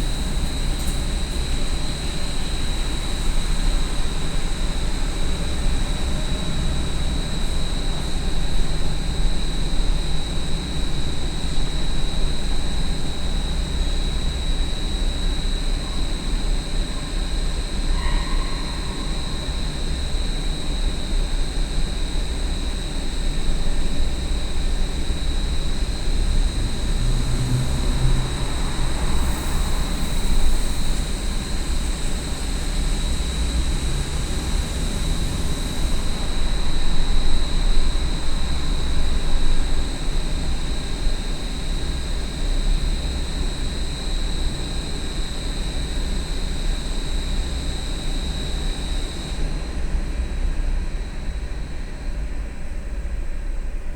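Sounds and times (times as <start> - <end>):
high-pitched fan whine: 0.0 - 53.9
industrial exhaust fan rumbling: 0.0 - 53.9.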